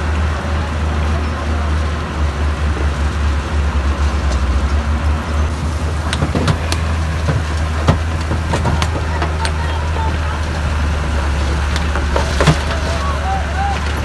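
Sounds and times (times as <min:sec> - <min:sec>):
diesel earthmoving machine rumbling: 0:00.0 - 0:14.0.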